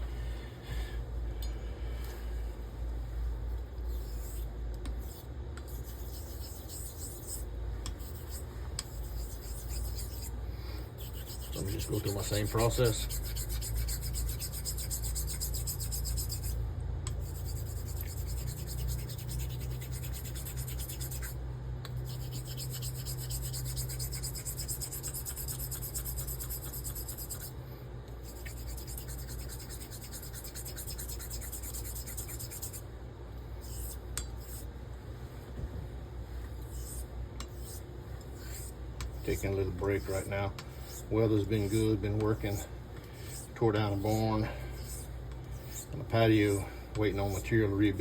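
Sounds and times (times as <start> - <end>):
steady low hum: 0.0 - 48.0
razor rubbing on whetstone: 3.9 - 10.4, 11.0 - 27.6, 28.2 - 32.8, 33.6 - 34.7, 36.6 - 48.0.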